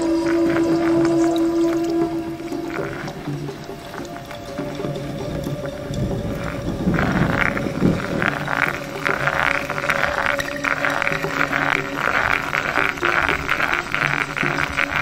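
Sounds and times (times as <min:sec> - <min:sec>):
flickering noisy electronic texture: 0:00.0 - 0:15.0
sustained low drone tones: 0:00.0 - 0:15.0.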